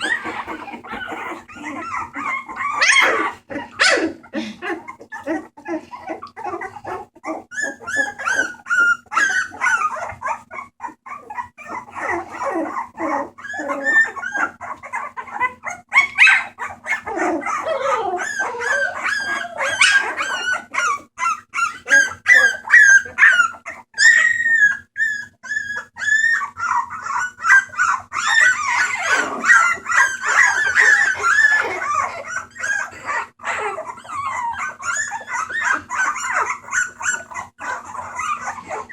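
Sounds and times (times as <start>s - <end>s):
puppies crying: 0.0s - 38.9s.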